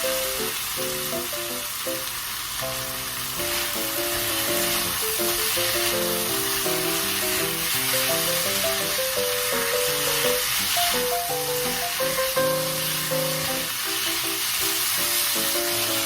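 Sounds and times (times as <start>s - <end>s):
background music melody: 0.0s - 16.0s
food sizzling in frying pan: 0.0s - 16.0s.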